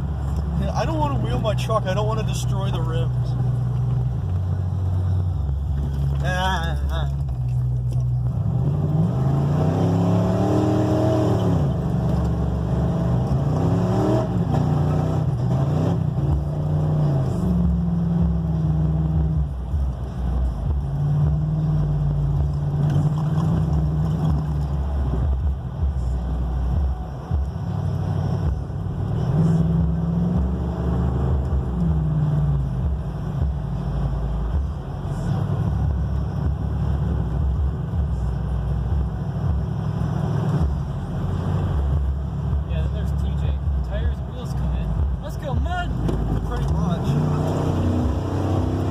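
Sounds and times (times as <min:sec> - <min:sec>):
truck engine revving while driving: 0:00.0 - 0:48.9.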